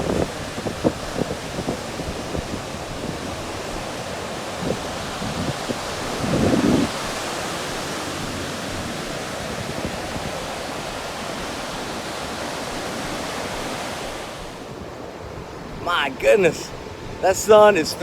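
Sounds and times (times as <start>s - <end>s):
ocean surf on sandy beach: 0.0s - 18.0s.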